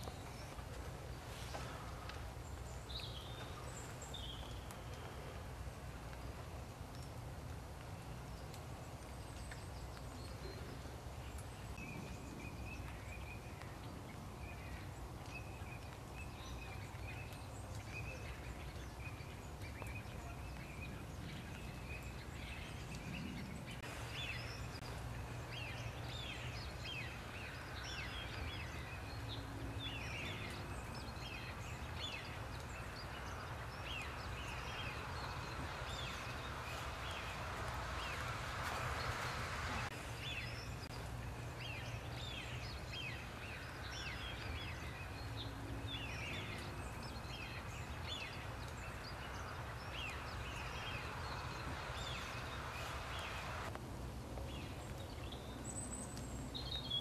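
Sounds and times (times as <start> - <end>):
small birds calling and singing: 0.0 - 57.0.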